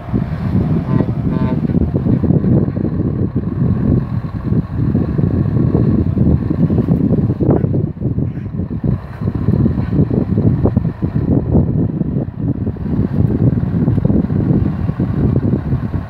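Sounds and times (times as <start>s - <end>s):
truck diesel engine passing: 0.0s - 16.0s
wind buffeting microphone: 0.0s - 16.0s.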